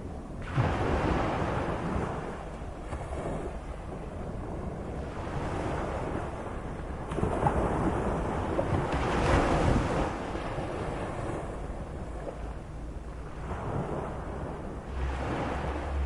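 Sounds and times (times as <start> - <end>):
waves surging and washing in: 0.0 - 16.0
wind rumbling on microphone: 0.0 - 16.0.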